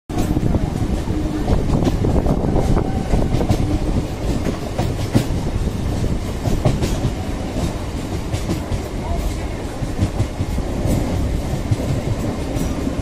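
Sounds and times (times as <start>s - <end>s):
train low rumble: 0.1s - 13.0s
wheels clacking over rail joints: 0.1s - 13.0s.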